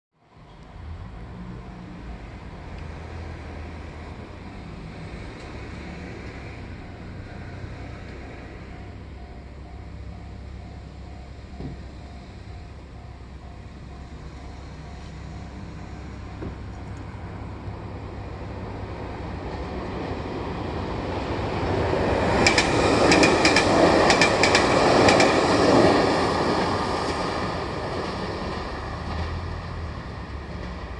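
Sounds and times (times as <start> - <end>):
electric train rumbling past: 0.2 - 30.9.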